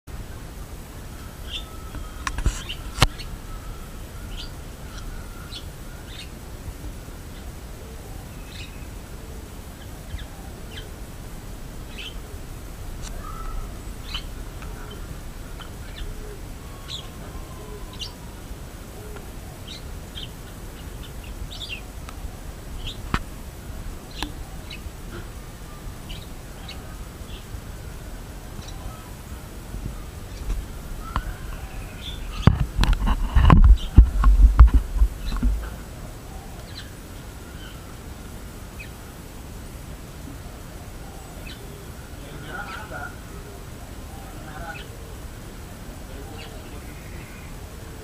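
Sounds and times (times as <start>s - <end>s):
small birds chirping: 0.1s - 48.0s.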